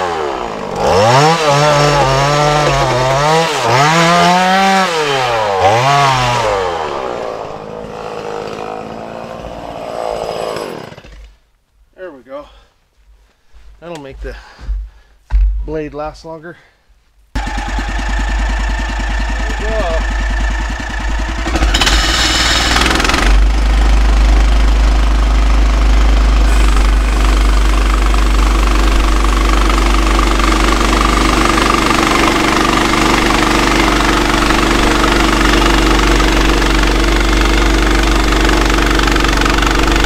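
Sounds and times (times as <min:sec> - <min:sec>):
band saw blade cutting log: 0:00.0 - 0:11.4, 0:17.4 - 0:40.0
small gas engine running: 0:00.0 - 0:11.4, 0:17.4 - 0:40.0.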